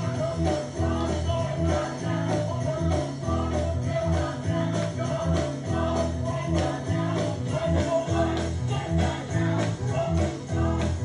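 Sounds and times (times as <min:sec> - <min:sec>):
choir singing gospel: 0:00.0 - 0:11.0
steady bass beat: 0:00.0 - 0:11.0
tambourine shaking: 0:00.0 - 0:11.0.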